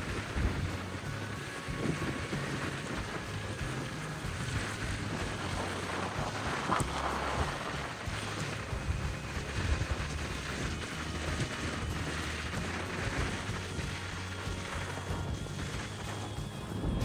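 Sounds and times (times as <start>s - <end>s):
vehicle engine and road rumble: 0.0s - 17.0s
wind noise: 0.0s - 17.0s.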